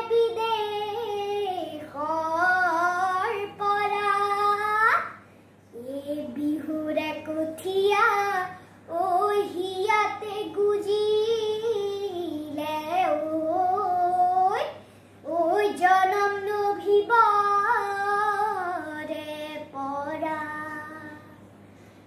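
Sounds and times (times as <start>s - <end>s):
girl singing unaccompanied: 0.0s - 21.4s.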